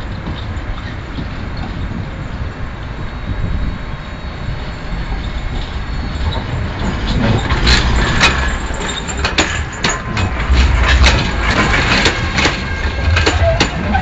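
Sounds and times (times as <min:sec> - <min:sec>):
tram rumble: 0:00.0 - 0:14.0
wheels clicking and squeaking on rails: 0:00.0 - 0:14.0.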